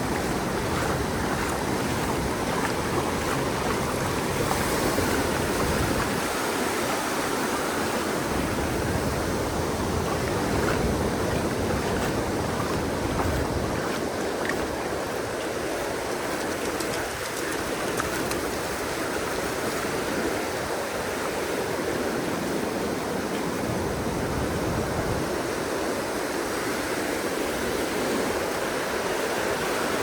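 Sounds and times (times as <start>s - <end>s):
ocean waves breaking: 0.0s - 30.0s.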